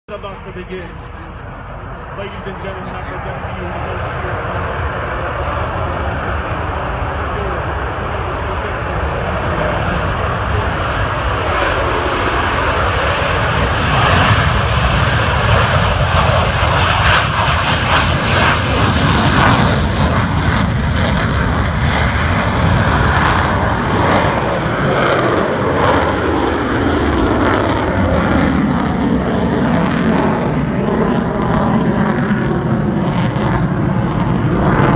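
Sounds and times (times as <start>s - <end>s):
jet engines roaring: 0.1s - 34.9s.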